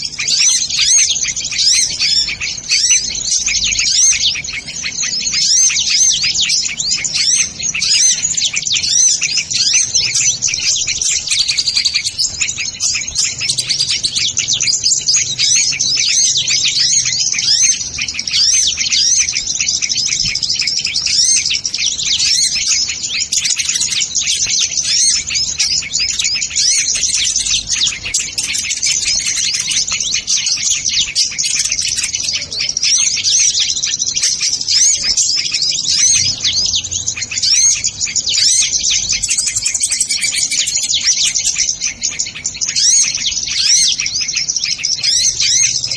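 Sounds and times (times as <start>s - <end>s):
sunbirds chirping and twittering: 0.0s - 45.9s.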